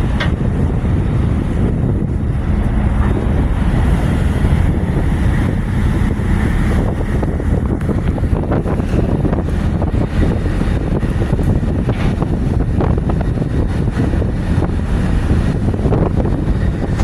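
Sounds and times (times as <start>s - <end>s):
boat engine rumble: 0.0s - 17.0s
sea wash: 0.0s - 17.0s
wind buffeting microphone: 0.0s - 17.0s.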